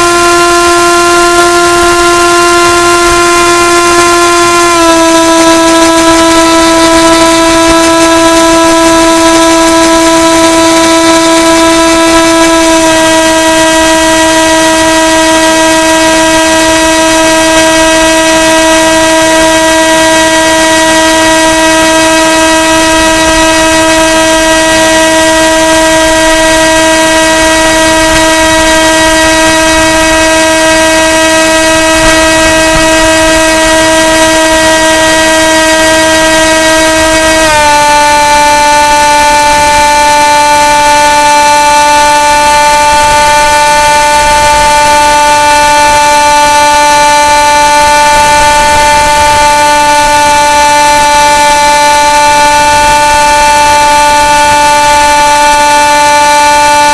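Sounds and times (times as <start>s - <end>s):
model plane motor droning: 0.0s - 56.9s.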